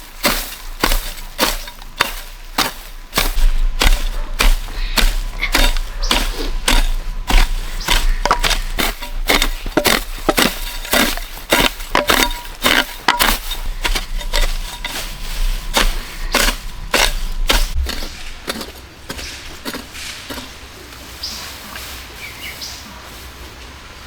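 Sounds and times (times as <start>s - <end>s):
blade chopping bamboo: 0.0s - 20.6s.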